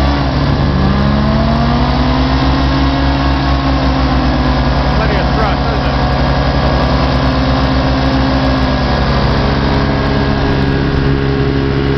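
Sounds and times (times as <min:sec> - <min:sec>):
hovercraft engine running: 0:00.0 - 0:11.9.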